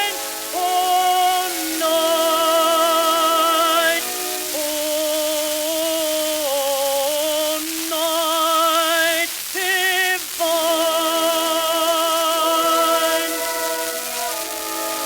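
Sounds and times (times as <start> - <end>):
old record music with vibrato: 0.0 - 15.0
record surface hiss: 0.0 - 15.0.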